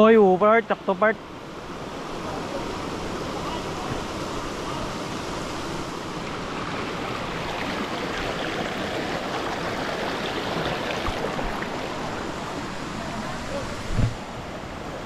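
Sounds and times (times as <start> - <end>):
waterfall roaring: 0.7 - 15.0.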